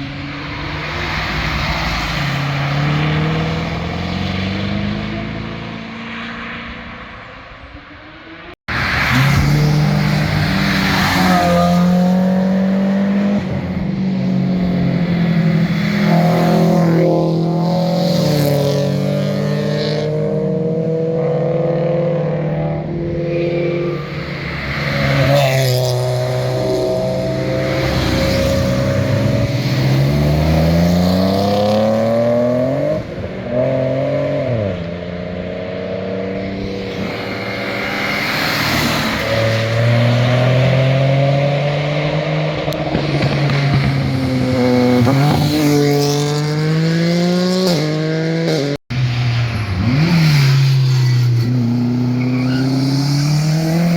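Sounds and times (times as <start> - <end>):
car engines accelerating past: 8.7 - 53.9.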